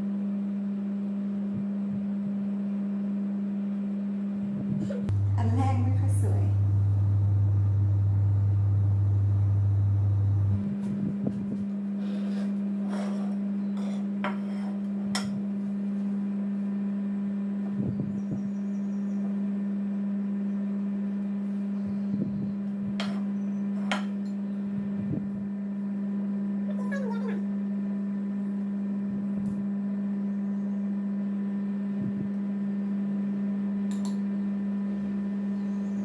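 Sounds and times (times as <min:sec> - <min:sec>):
low hum: 0:04.1 - 0:36.0.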